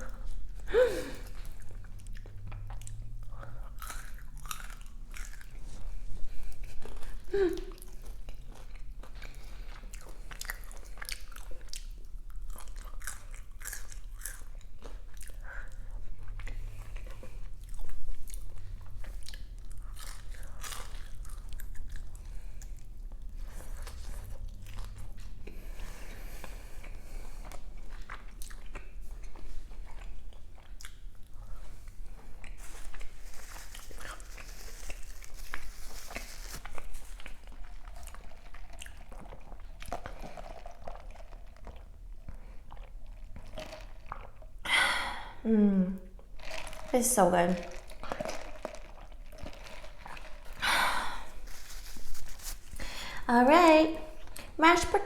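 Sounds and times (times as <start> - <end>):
wet chewing: 0.0 - 44.6, 46.1 - 54.7.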